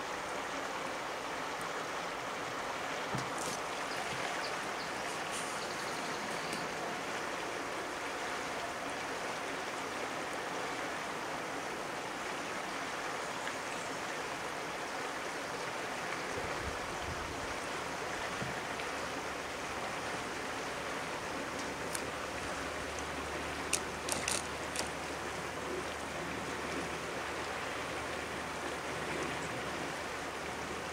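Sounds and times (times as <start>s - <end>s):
river water rushing over rocks: 0.0s - 30.9s.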